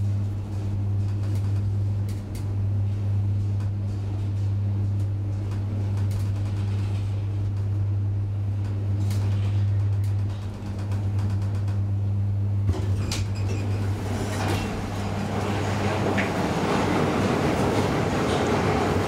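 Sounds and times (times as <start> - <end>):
elevator electrical hum: 0.0 - 19.0.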